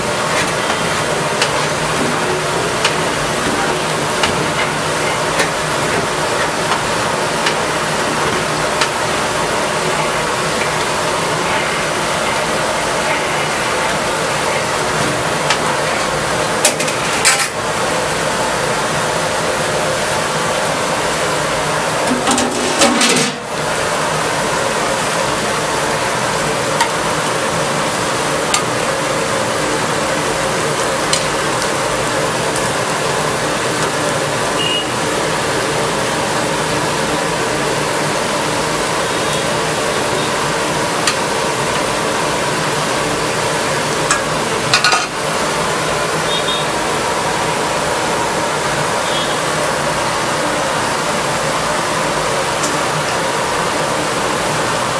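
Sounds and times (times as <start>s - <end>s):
chicken deep-frying in oil: 0.0s - 54.9s.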